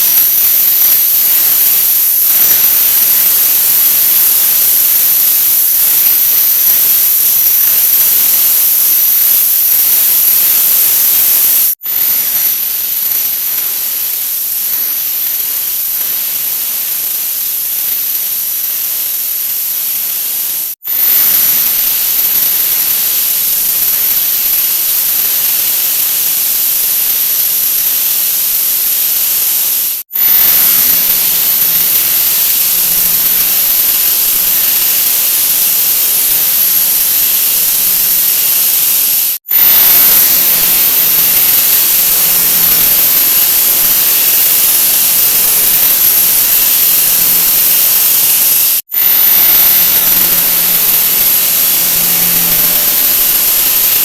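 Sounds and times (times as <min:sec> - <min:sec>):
dense high-pitched hiss: 0:00.0 - 0:54.0.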